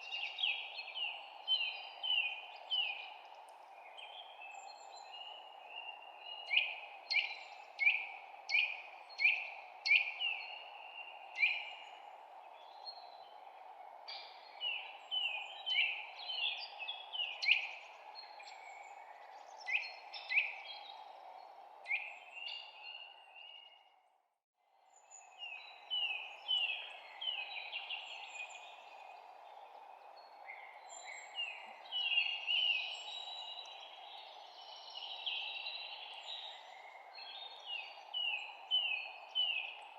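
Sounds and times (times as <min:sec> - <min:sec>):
songbirds chirping: 0:00.0 - 0:24.0, 0:24.8 - 0:39.9.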